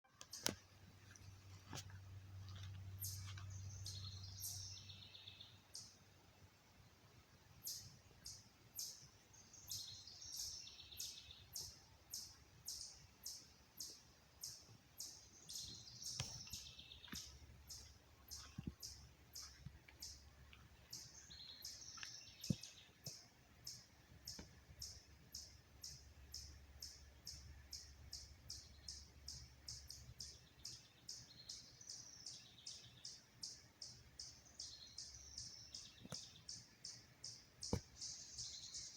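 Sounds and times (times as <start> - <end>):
bird chirping: 0.1 - 6.1, 7.6 - 38.9.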